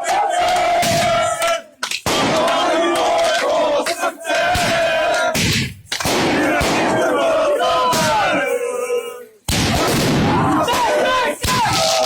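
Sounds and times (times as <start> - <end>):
crowd of fans chanting: 0.0 - 11.7.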